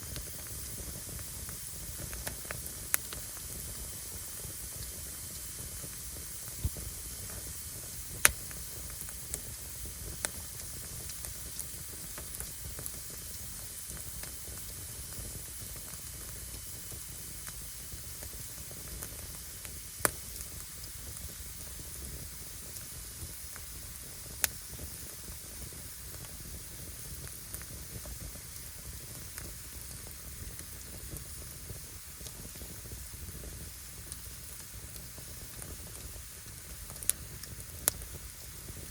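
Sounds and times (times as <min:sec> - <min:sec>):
firewood crackling pops: 0:00.0 - 0:38.9
wood fire hissing: 0:00.0 - 0:38.9.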